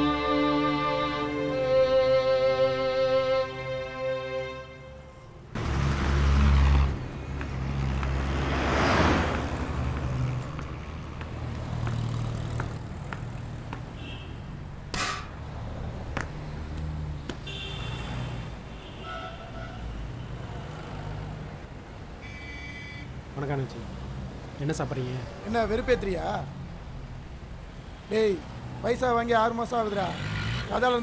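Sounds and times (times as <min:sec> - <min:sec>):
vehicles passing on road: 0:00.0 - 0:31.0.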